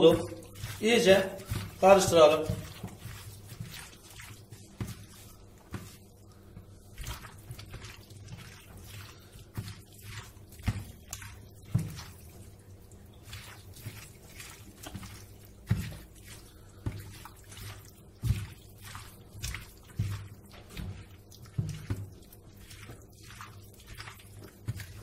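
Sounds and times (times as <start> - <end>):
hand squelching food in sauce: 0.0 - 25.0.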